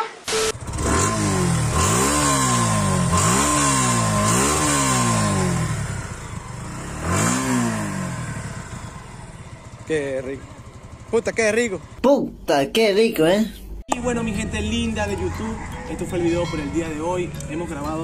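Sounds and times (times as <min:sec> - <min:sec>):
motorcycle engine revving: 0:00.3 - 0:12.0, 0:14.0 - 0:18.0.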